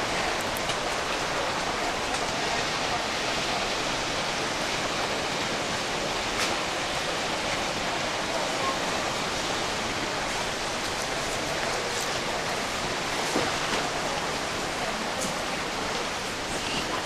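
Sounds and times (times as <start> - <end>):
sea surf breaking against walls: 0.0 - 17.0.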